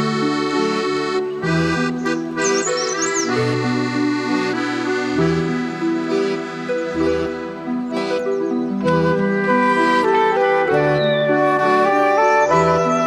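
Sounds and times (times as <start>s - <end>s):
organ-like background music: 0.0s - 13.0s.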